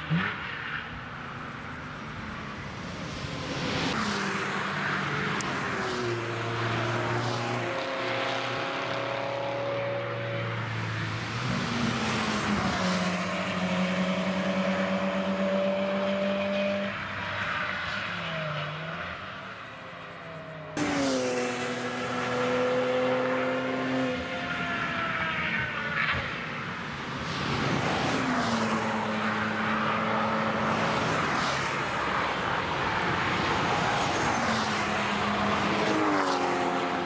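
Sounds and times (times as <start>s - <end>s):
race cars passing at speed: 0.0s - 37.0s
tyre and road noise: 0.0s - 37.0s.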